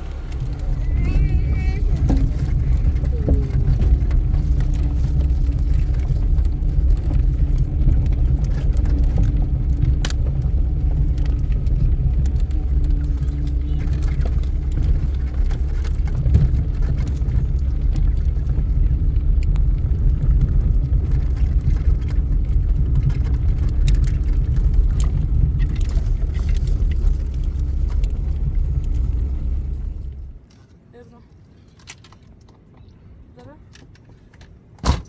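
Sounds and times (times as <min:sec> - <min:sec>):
loud low rumble: 0:00.0 - 0:30.4.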